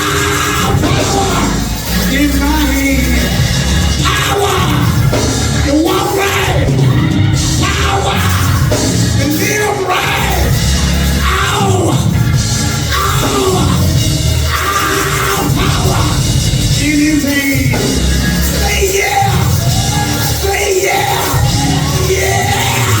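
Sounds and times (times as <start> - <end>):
church band music: 0.0 - 23.0
preacher chanting and yelling: 0.0 - 23.0.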